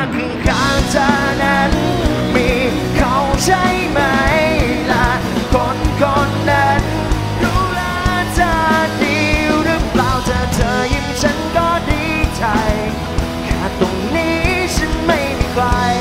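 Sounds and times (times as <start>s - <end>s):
live rock band playing: 0.0s - 16.0s
man singing into microphone: 0.0s - 16.0s.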